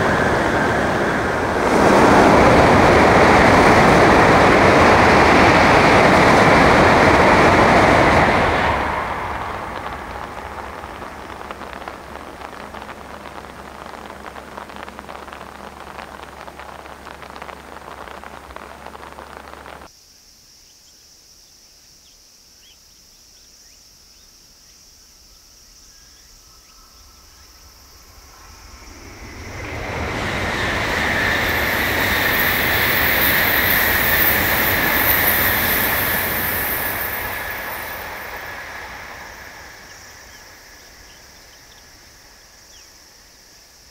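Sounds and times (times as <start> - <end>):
bullet train passing at speed: 0.0 - 19.9, 26.6 - 43.9
steady hiss: 0.0 - 43.9.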